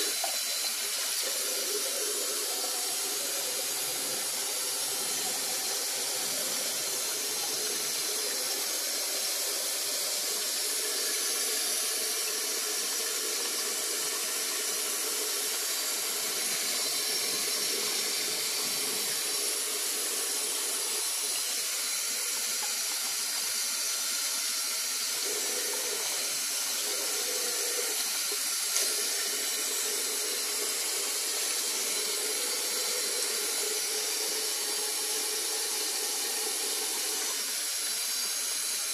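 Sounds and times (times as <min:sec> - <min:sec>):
tap water running into basin: 0:00.0 - 0:38.9.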